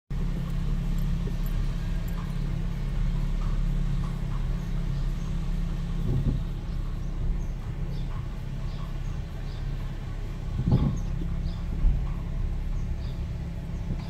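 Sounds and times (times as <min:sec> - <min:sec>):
car engine humming: 0:00.1 - 0:14.0.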